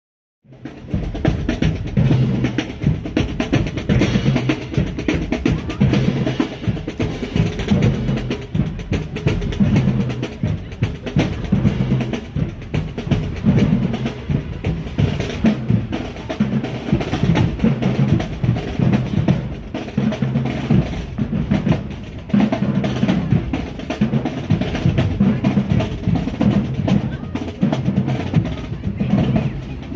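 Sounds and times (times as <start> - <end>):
pitched bass drum notes: 0.5 - 29.9
snare drum strokes and rolls: 0.5 - 29.9.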